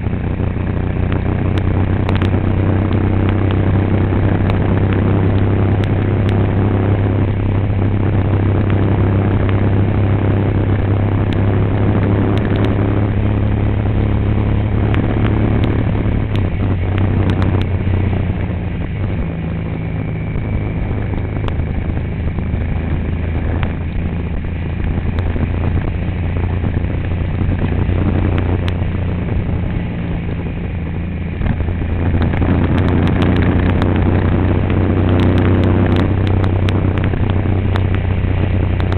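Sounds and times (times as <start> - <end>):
vehicle engine humming: 0.0 - 38.9.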